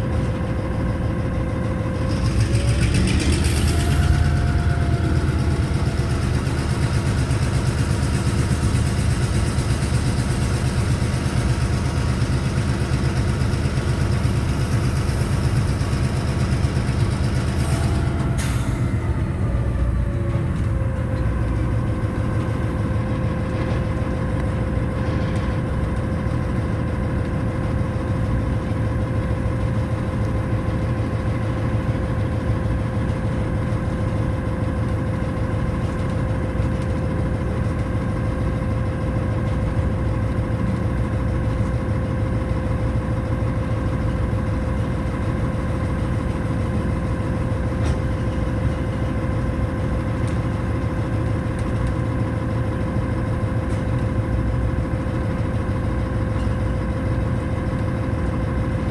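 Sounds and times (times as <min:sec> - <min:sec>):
diesel locomotive engine drone: 0:00.0 - 0:58.9
steady whine: 0:00.0 - 0:58.9.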